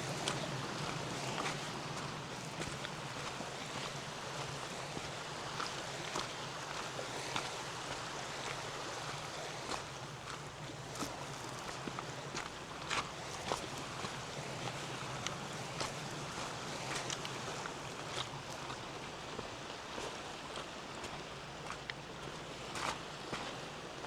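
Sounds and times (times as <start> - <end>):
lake water: 0.0 - 24.0
wind: 0.0 - 24.0.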